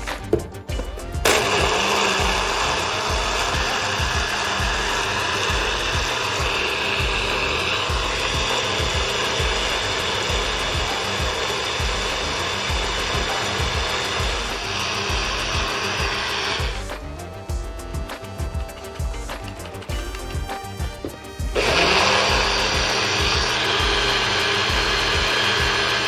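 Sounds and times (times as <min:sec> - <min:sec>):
blender crushing ice: 0:00.0 - 0:26.0.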